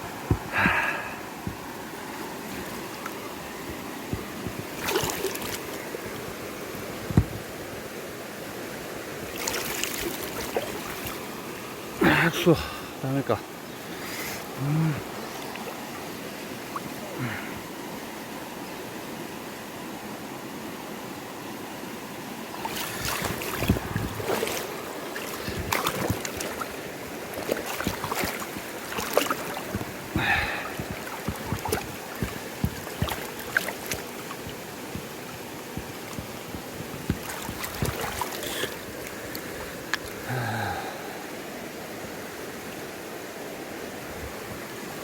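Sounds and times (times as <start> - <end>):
river rushing: 0.0 - 45.0.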